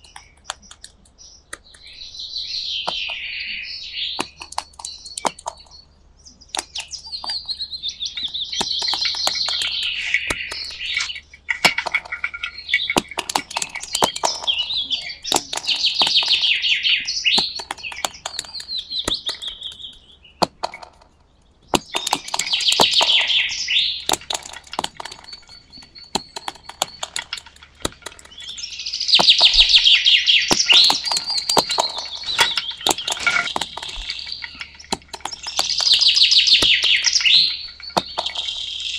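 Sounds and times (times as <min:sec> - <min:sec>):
sharp clicks: 0:00.0 - 0:02.0, 0:04.1 - 0:05.8, 0:06.5 - 0:38.9
bird-like chirps and trills: 0:00.0 - 0:38.9.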